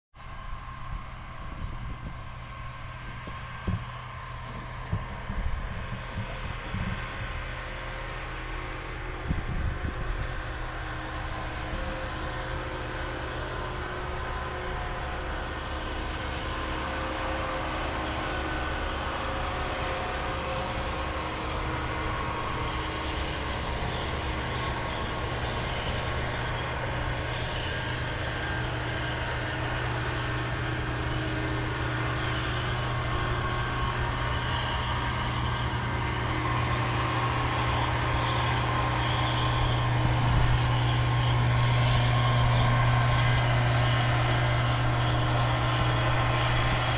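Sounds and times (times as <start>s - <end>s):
combine harvester running: 0.2s - 46.9s.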